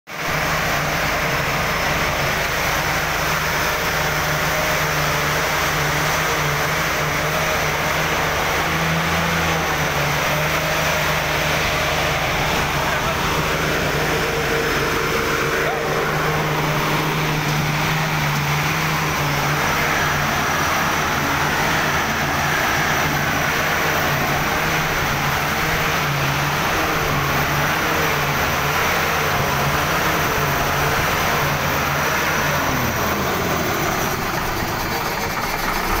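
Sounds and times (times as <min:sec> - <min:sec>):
compressor running: 0:00.2 - 0:36.0.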